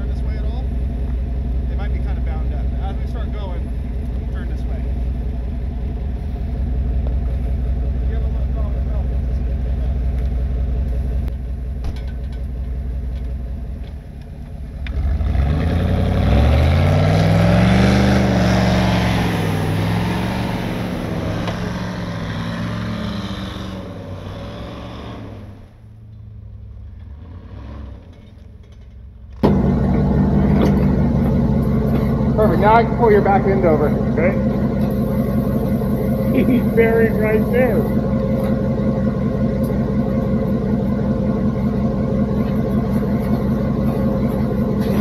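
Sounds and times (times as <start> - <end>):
truck engine idling and revving: 0.0 - 45.0.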